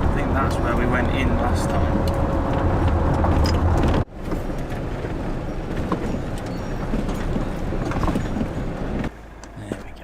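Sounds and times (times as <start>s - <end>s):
tyres crackling over ground: 0.0s - 10.0s
van engine running: 0.0s - 10.0s.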